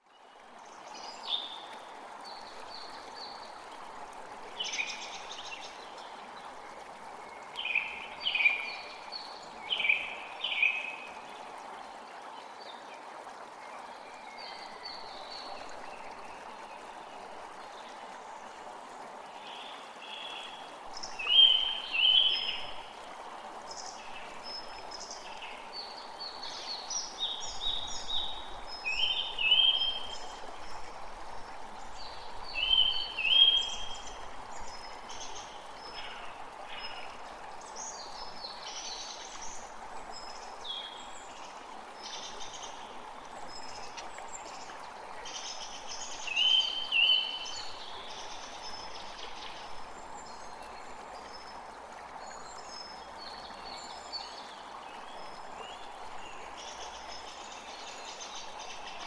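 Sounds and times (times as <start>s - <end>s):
stream rushing: 0.2s - 59.0s.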